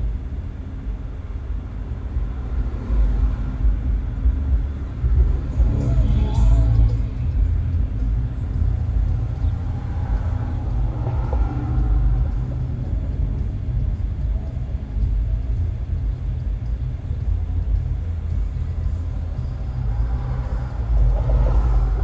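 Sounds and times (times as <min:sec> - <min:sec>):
wind noise from open car windows: 0:00.0 - 0:22.0.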